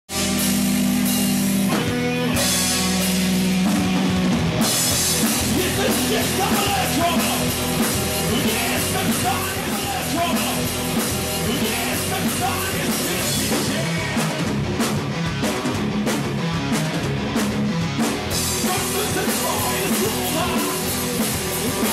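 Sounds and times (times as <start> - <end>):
bass guitar: 0.0 - 21.9
drum kit: 0.1 - 21.9
electric guitars: 0.1 - 21.9.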